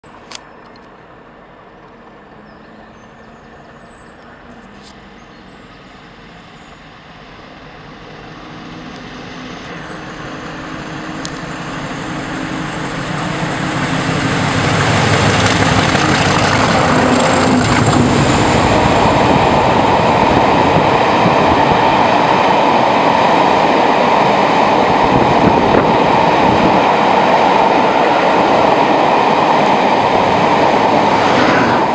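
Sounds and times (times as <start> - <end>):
diesel locomotive engines: 0.0 - 31.9.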